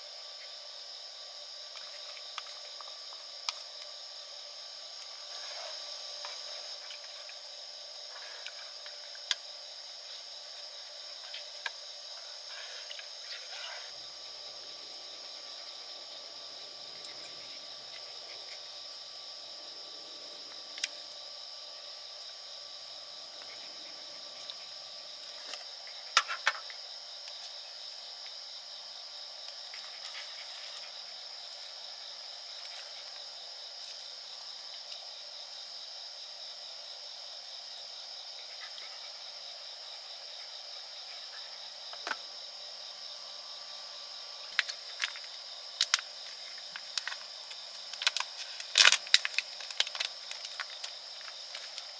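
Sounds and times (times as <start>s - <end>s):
insects chirring: 0.0s - 51.9s.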